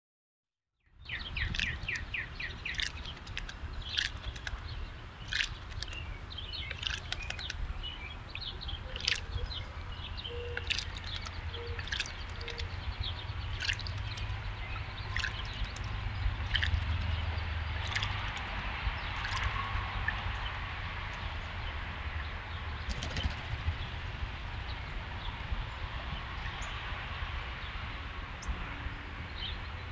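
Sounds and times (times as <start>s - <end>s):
songbirds chirping: 0.8s - 29.9s.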